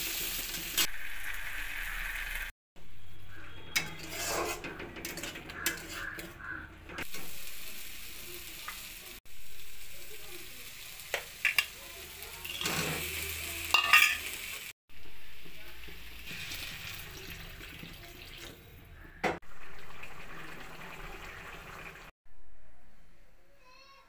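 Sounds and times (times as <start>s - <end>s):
curry sizzling and bubbling in pan: 0.0s - 18.4s, 19.0s - 22.1s.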